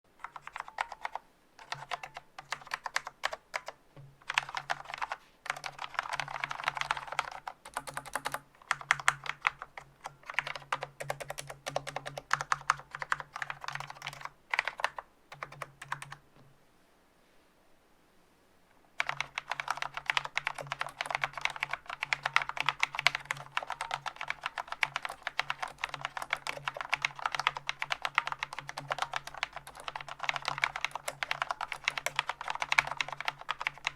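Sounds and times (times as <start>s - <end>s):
fast typing on mechanical keyboard: 0.2s - 16.2s, 19.0s - 33.9s.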